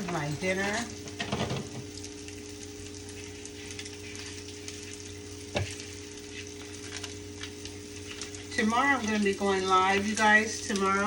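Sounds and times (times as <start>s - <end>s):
low steady hum: 0.0s - 11.0s
patties sizzling in a pan: 0.0s - 11.0s.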